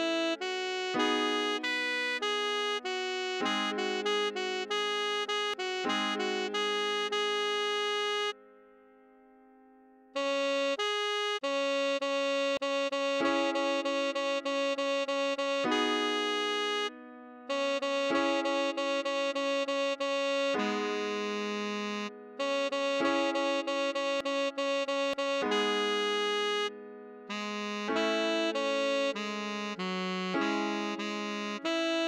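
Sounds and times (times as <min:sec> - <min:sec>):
tenor saxophone melody: 0:00.0 - 0:08.4, 0:10.2 - 0:32.0.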